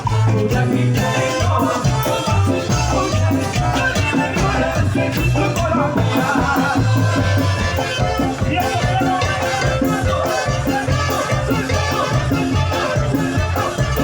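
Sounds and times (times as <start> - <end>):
dance band playing: 0.0 - 14.0.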